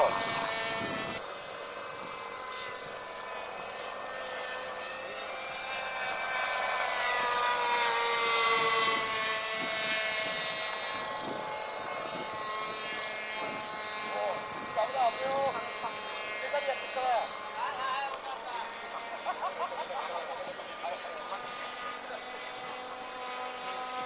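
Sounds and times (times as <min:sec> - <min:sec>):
model airplane engine whining: 0:00.0 - 0:24.0.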